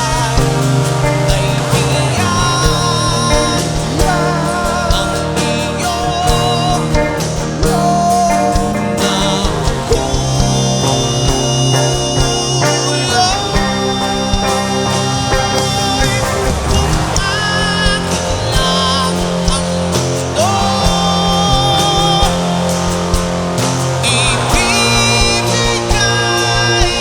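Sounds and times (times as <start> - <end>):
live rock band playing: 0.0 - 27.0
wavering lead guitar notes: 0.0 - 27.0.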